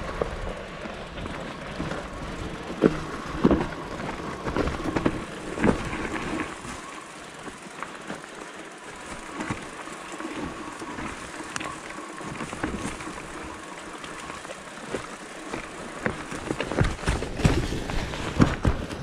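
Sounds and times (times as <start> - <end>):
bike clicks and rattles: 0.0 - 19.0
bike tyres rolling on dirt: 0.0 - 19.0.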